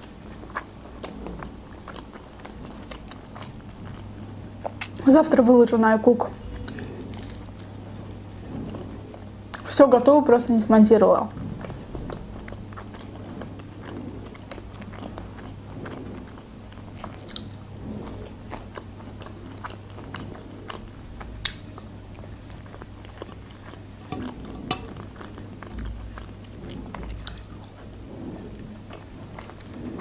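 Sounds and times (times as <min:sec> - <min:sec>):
person chewing fried food: 0:00.0 - 0:05.0, 0:06.5 - 0:09.3, 0:11.4 - 0:30.0.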